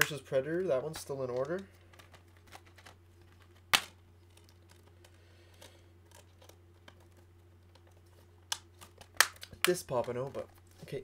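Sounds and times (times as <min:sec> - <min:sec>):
plastic clicks and rustles: 0:00.9 - 0:11.0.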